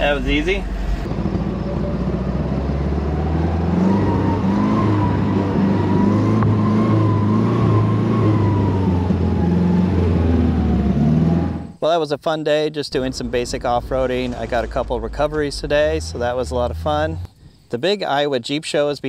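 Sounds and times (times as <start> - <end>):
drivetrain whine: 0.0 - 11.8, 12.9 - 17.6
vehicle engine running: 0.0 - 11.8, 13.0 - 17.3.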